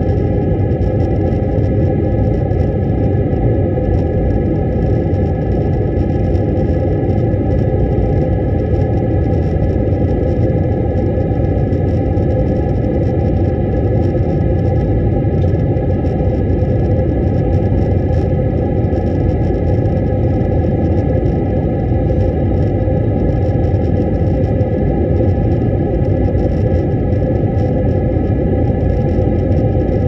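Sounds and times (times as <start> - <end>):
faint steady hums: 0.0 - 30.0
jet engines rumbling: 0.0 - 30.0.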